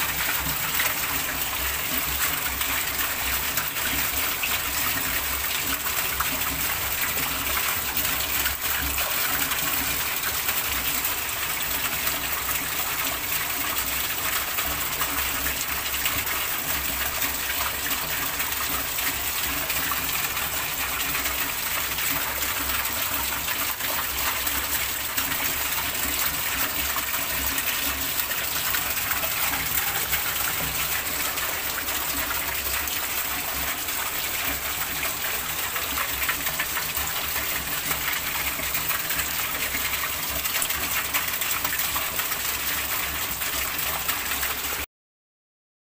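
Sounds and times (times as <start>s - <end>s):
heavy rain on pond water: 0.0s - 44.9s.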